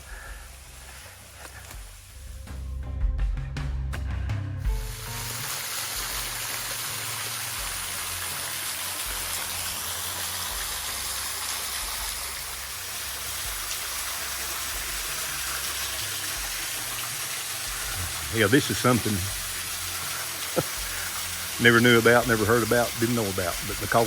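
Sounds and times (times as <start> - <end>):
small waterfall splashing: 0.0 - 2.2, 4.7 - 24.0.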